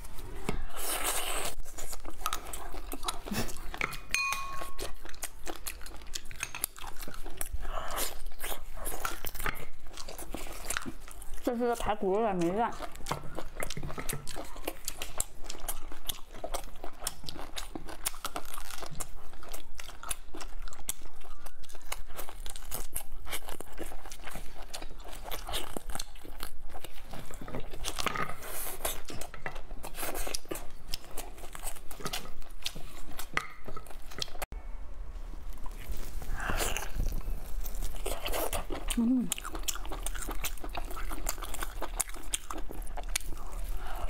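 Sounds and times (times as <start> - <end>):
chewing meat: 0.0 - 34.5, 35.5 - 44.0.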